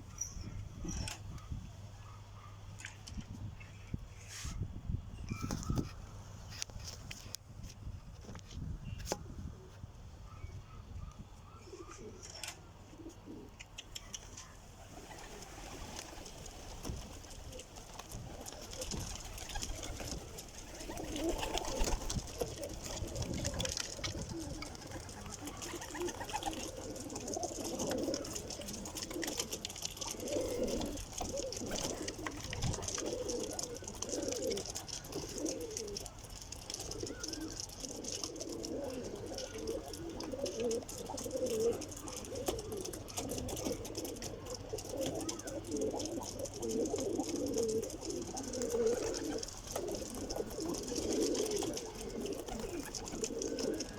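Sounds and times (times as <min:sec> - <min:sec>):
pigeons cooing: 0:09.5 - 0:53.9.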